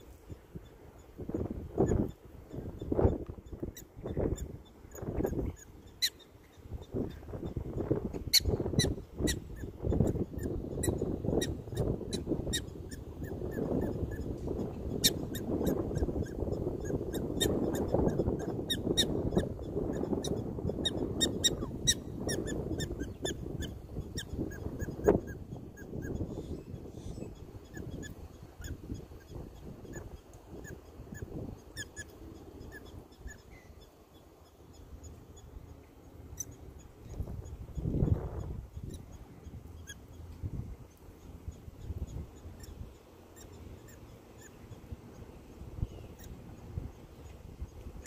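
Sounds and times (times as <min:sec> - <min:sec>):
prairie dogs chirping barks: 0:01.8 - 0:40.2, 0:41.2 - 0:47.3.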